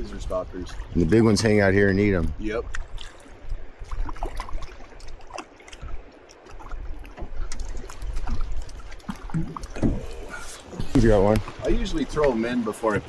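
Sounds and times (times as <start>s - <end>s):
water lapping against boat hull: 0.0s - 13.0s
wind rumbling on microphone: 0.0s - 13.0s.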